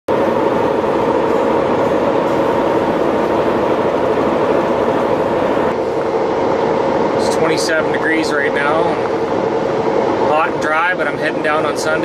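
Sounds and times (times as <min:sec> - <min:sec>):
road and tyre drone in vehicle: 0:00.1 - 0:12.0.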